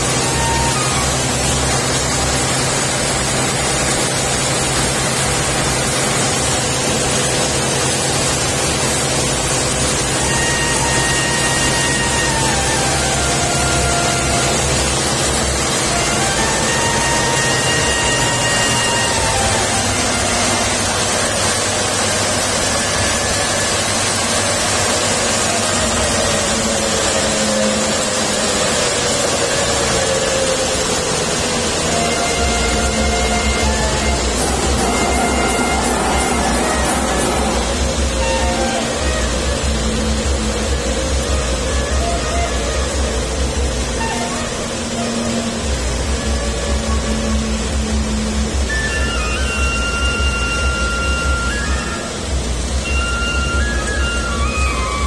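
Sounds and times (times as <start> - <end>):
coffee grinding machine running: 0.0 - 55.0.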